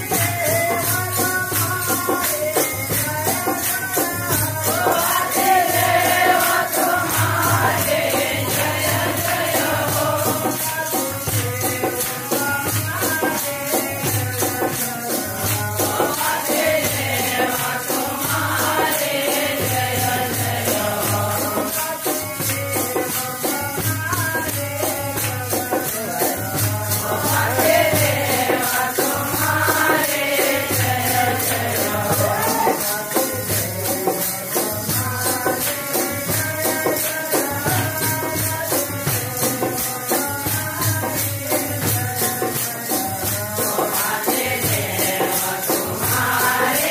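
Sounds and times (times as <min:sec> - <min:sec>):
jingling hand percussion: 0:00.0 - 0:46.9
voices singing: 0:00.0 - 0:46.9.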